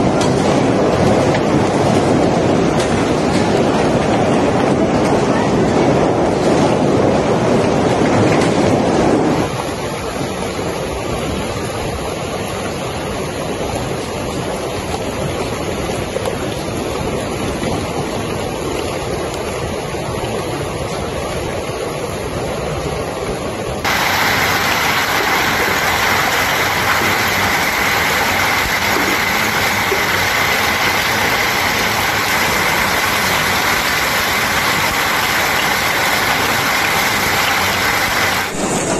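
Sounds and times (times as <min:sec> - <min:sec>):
hail striking swimming pool: 0:00.0 - 0:38.9
heavy hail and rain: 0:00.0 - 0:38.9.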